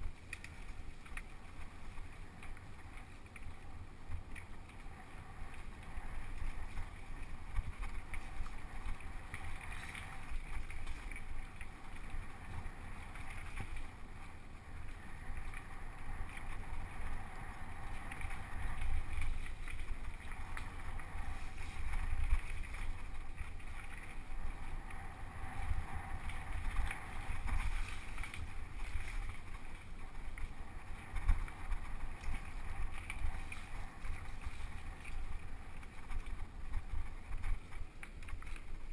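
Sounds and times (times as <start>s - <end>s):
bike tyre noise: 0.0s - 38.9s
wind rumble on microphone: 0.0s - 38.9s.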